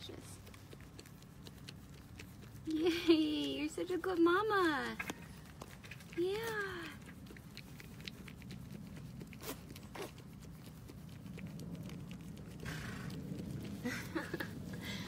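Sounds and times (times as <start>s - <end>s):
goats rustling: 0.0s - 15.0s.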